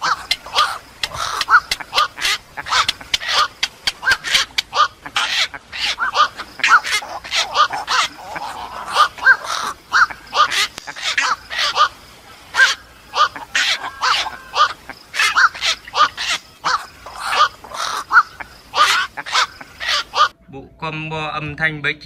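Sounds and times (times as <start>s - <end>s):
heron calls: 0.0s - 20.3s.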